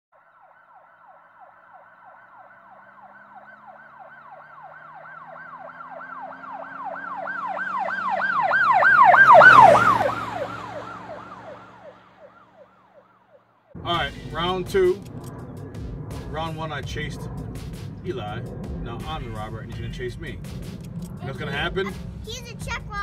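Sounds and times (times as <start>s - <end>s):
emergency siren yelping: 0.1s - 22.1s
vehicle rushing past: 0.8s - 22.6s.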